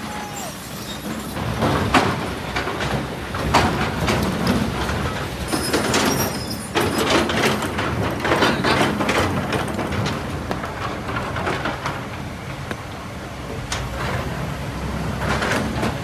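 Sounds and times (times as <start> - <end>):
excavator engine under load: 0.0 - 16.0.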